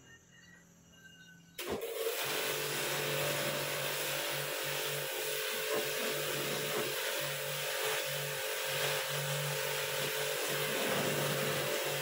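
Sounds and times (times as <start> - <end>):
pressure washer motor humming: 1.6 - 12.0
water jet hissing: 1.6 - 12.0.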